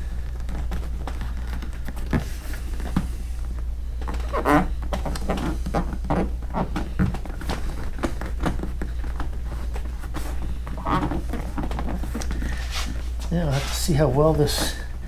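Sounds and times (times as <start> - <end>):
hands tapping and rubbing vinyl: 0.0 - 15.0
steady low hum: 0.0 - 15.0.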